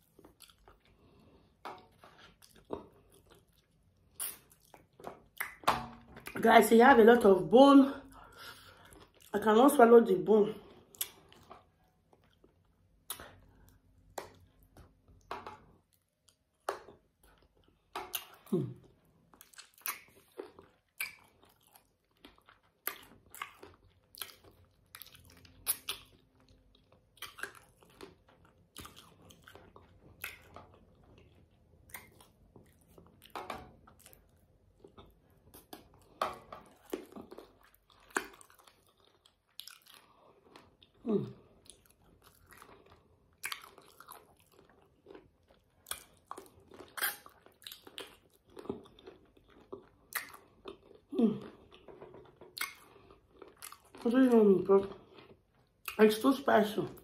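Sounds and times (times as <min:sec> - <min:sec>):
wet chewing and crunching: 0:00.0 - 0:06.6, 0:08.0 - 0:09.9, 0:10.5 - 0:57.0.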